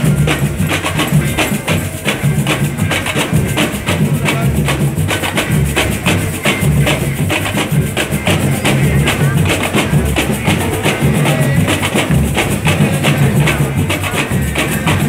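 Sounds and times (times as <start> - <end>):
deep bass drums pulsing: 0.0 - 15.0
samba drum section playing: 0.0 - 15.0.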